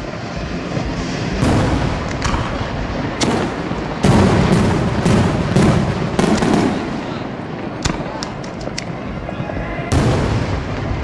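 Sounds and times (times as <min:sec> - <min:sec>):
firework shells booming: 0:00.8 - 0:09.2, 0:09.9 - 0:11.0.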